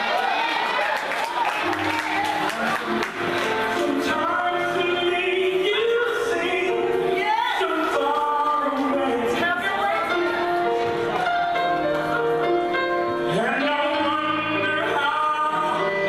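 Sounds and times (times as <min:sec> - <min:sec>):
gospel song with lead vocal: 0:01.8 - 0:16.0.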